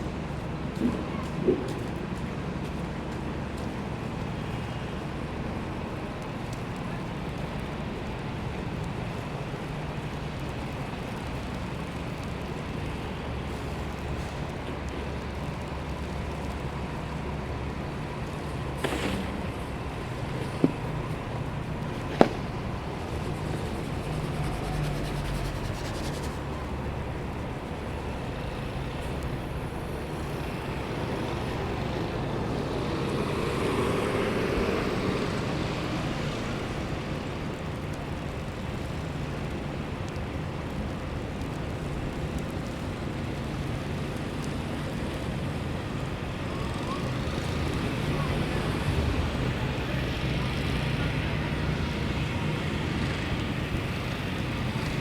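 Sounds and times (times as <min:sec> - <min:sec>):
city street traffic: 0:00.0 - 0:55.0.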